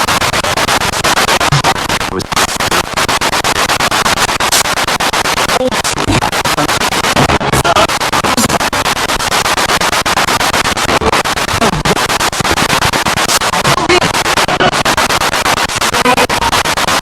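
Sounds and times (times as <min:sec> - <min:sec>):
radio static stuttering: 0:00.0 - 0:17.0
snatches of broadcast voice: 0:00.0 - 0:17.0
snatches of radio music: 0:00.0 - 0:17.0.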